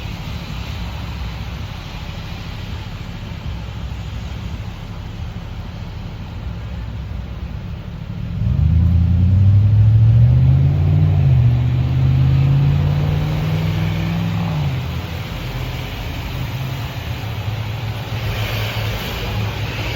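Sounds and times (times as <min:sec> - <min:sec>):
vehicle engine humming: 0:00.0 - 0:19.9.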